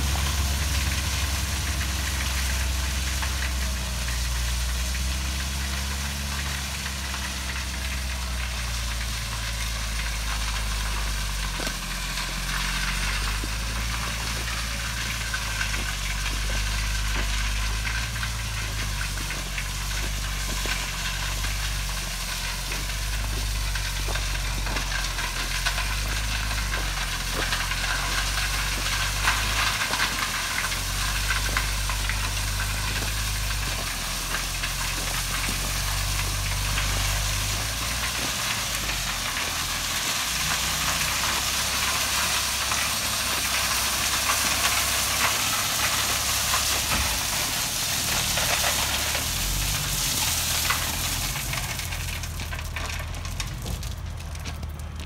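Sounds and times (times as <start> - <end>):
diesel truck engine running: 0.0 - 55.0
gravel pattering and crunching: 0.0 - 55.0.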